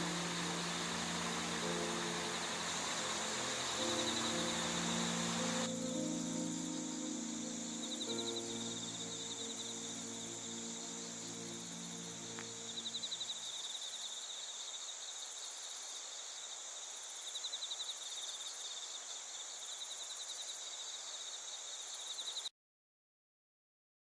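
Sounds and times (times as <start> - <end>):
crickets and insects trilling: 0.0 - 22.5
loud pulsing insect trill: 0.0 - 22.5.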